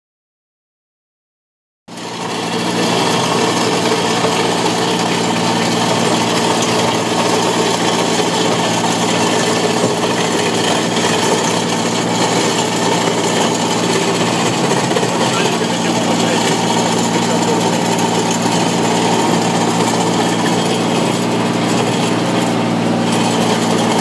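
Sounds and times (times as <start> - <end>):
cutting disc grinding asphalt: 1.9 - 24.0
mini excavator engine hum: 1.9 - 24.0.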